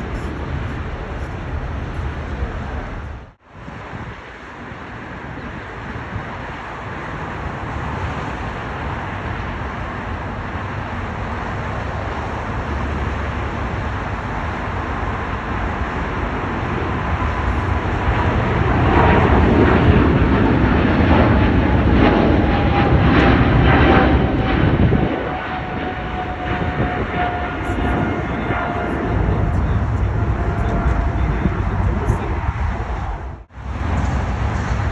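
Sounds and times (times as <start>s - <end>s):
jet engines passing: 0.0s - 34.9s.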